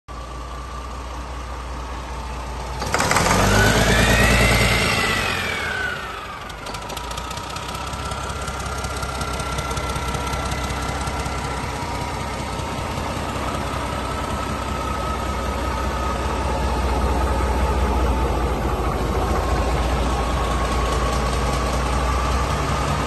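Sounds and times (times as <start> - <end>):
diesel engine revving and idling: 0.1 - 23.0.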